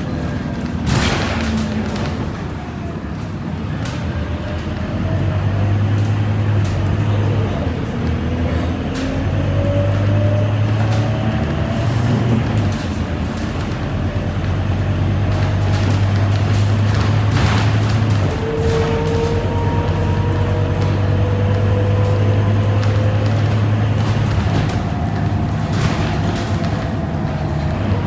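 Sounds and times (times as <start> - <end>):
bus engine humming: 0.0 - 28.0.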